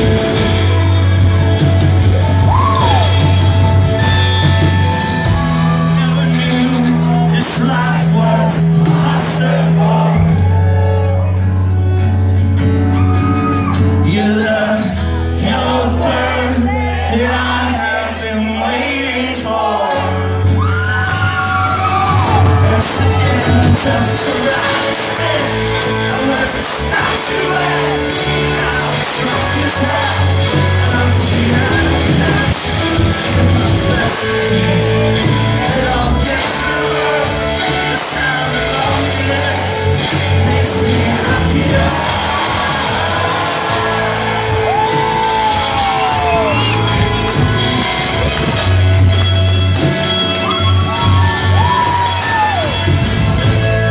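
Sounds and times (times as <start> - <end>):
male lead vocal: 0.0 - 11.1, 13.3 - 53.9
live rock band playing: 0.0 - 53.9.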